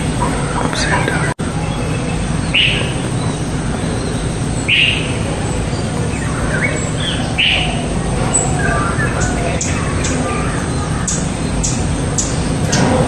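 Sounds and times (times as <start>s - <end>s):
loud sharp bird calls: 0.0s - 13.0s
steady low hum: 0.0s - 13.0s.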